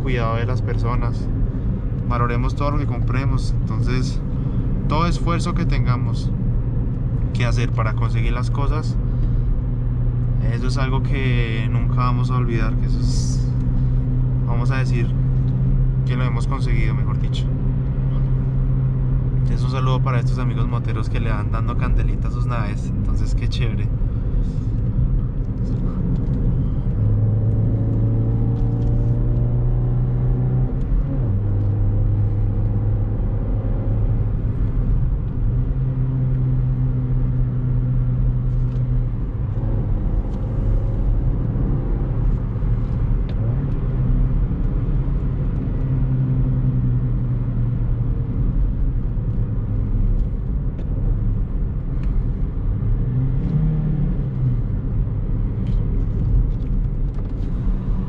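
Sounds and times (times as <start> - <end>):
car engine droning: 0.0 - 58.0
tyre and road rumble: 0.0 - 58.0.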